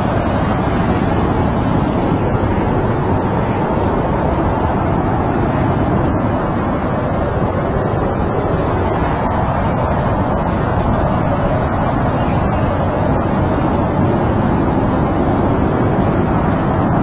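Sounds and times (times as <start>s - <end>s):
wind blowing steadily: 0.0s - 17.0s.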